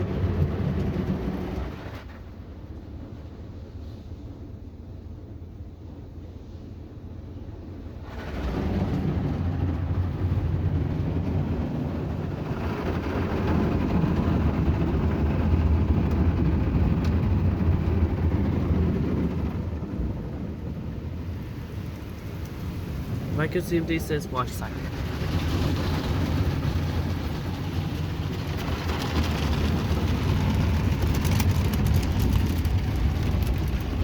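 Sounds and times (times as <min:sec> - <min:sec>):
car wash machine running: 0:00.0 - 0:02.4, 0:07.4 - 0:34.0.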